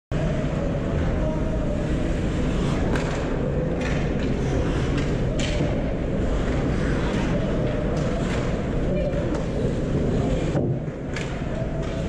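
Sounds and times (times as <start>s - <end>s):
low rumble of rink noise: 0.1s - 12.0s.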